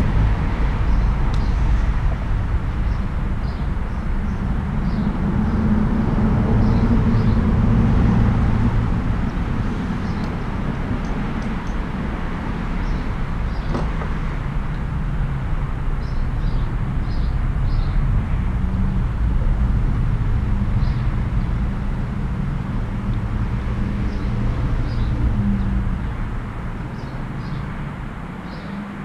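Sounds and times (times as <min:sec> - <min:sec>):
steady low rumble: 0:00.0 - 0:28.4.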